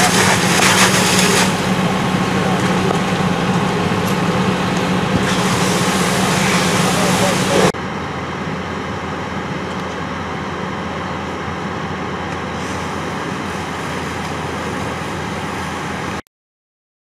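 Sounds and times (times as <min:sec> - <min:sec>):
fire engine idling: 0:00.0 - 0:16.2.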